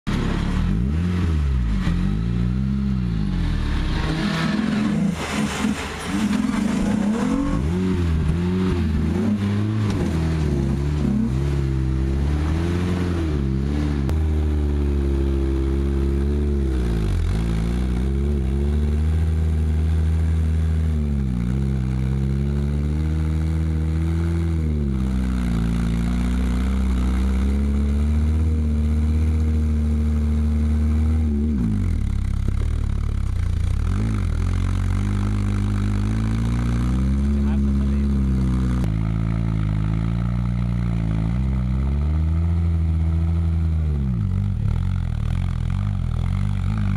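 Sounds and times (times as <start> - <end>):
clatter: 0.1 - 46.9
off-road engine revving: 0.1 - 46.9.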